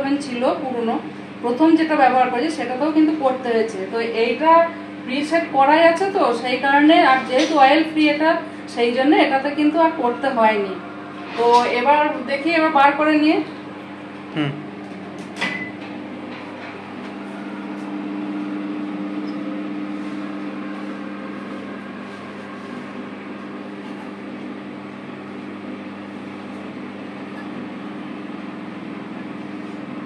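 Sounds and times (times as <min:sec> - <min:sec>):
oven cooling fan humming: 0:00.0 - 0:30.0.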